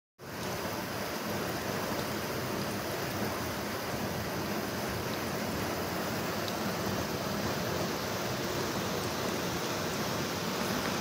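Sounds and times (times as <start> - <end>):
water rushing along a channel: 0.2 - 11.0.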